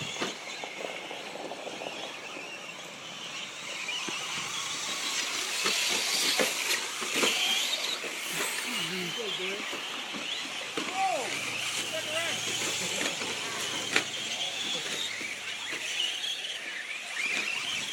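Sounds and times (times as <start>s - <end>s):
small motors whining: 0.0s - 17.9s
tyres running: 0.0s - 17.9s.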